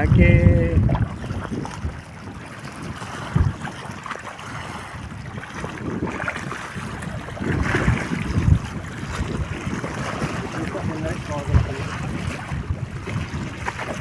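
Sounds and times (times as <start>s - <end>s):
moving water: 0.0s - 14.0s
wind buffeting microphone: 0.0s - 14.0s.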